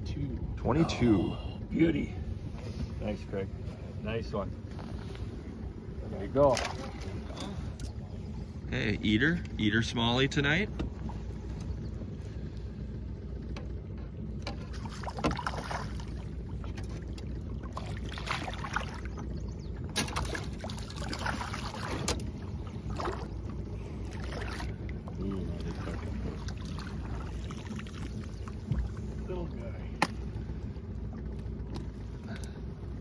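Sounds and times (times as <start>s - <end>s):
low rumble: 0.0s - 33.0s
water splashing against boat: 0.0s - 33.0s.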